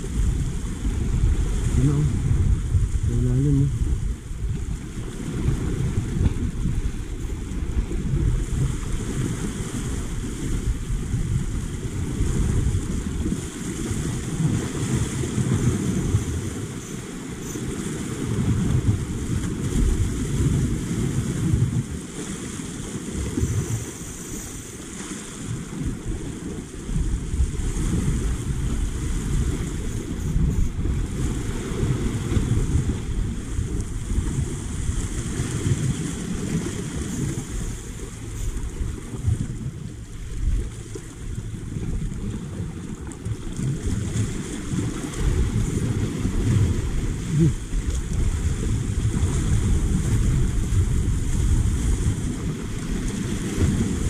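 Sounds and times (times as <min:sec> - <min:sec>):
small waves breaking over rocks: 0:00.0 - 0:54.0
wind buffeting the microphone: 0:00.0 - 0:54.0.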